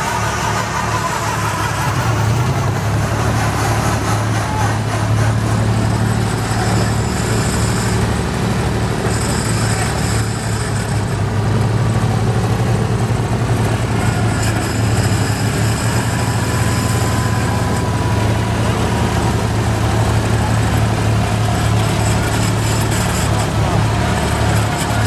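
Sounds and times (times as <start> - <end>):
garden tractor engine running: 0.0 - 25.0.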